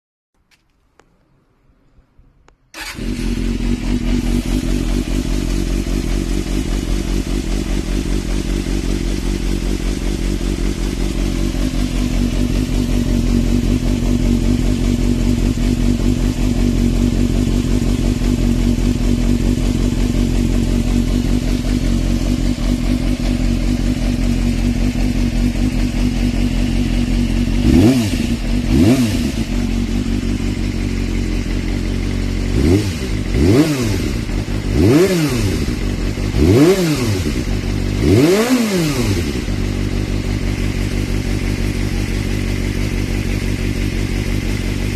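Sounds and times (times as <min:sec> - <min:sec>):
engine revving: 0:02.8 - 0:44.9
motorcycle engine idling loudly: 0:02.8 - 0:44.9.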